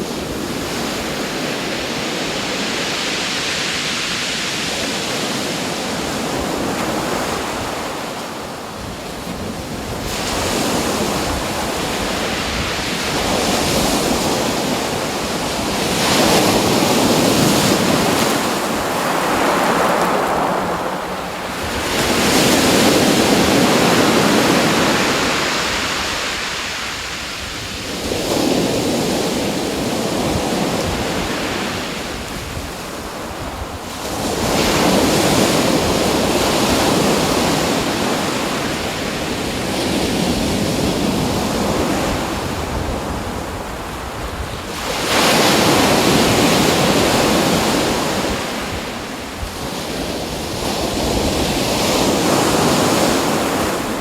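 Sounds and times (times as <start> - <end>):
rushing water waves: 0.0 - 54.0.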